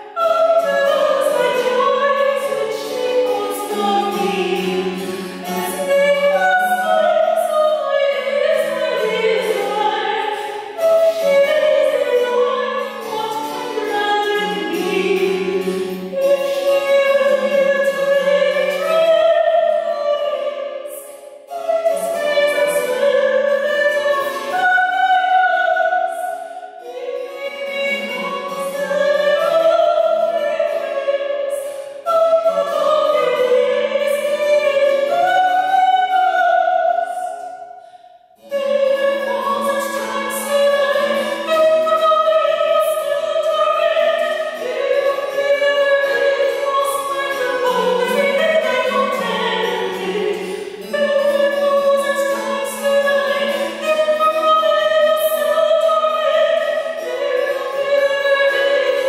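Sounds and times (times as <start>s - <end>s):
soprano singing: 0.0s - 37.6s, 38.4s - 59.0s.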